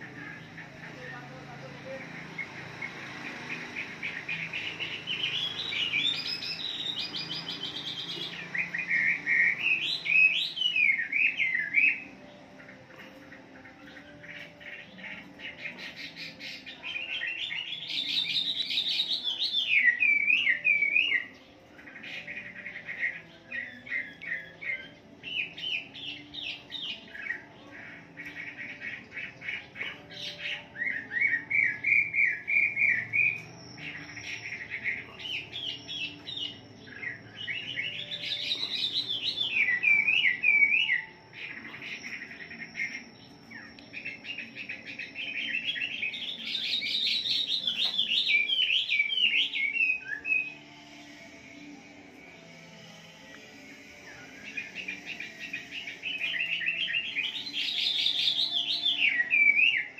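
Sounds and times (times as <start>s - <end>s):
songbird whistling and trilling: 2.2s - 52.6s, 53.3s - 59.9s.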